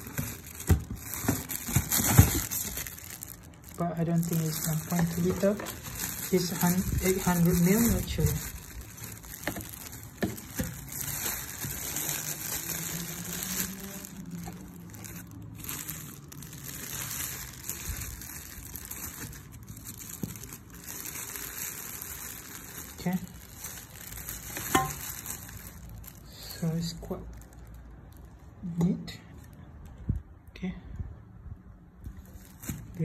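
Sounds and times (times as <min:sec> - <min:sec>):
plastic bag crinkling: 0:00.0 - 0:28.6, 0:32.2 - 0:33.0.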